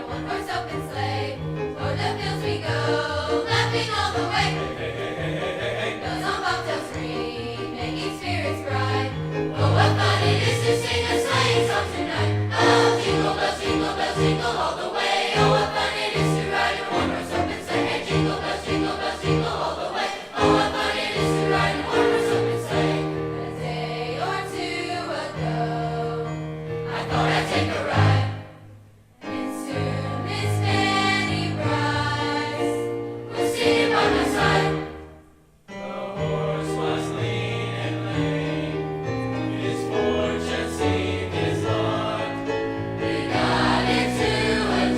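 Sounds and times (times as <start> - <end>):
choir singing in harmony: 0.0 - 44.9.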